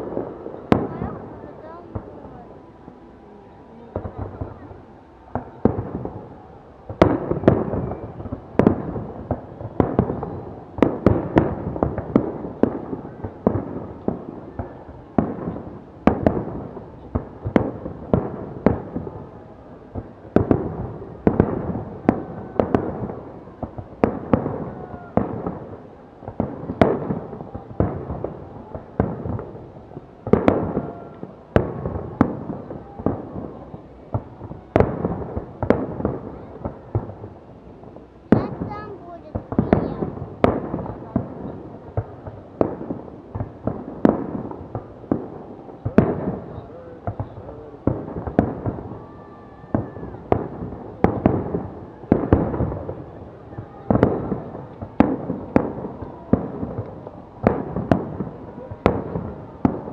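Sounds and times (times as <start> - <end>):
fireworks bangs echoing: 0.0 - 2.6, 3.8 - 59.9.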